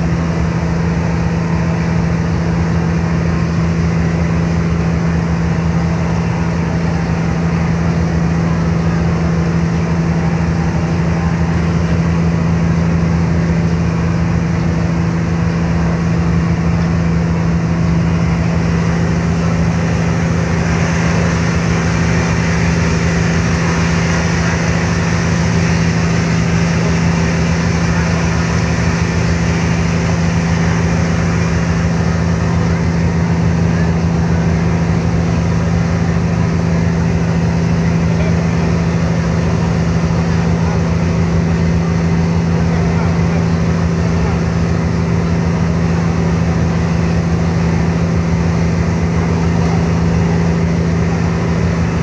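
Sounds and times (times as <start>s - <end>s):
ferry diesel engines humming: 0.0s - 52.0s
rushing water: 0.0s - 52.0s
wind: 0.0s - 52.0s.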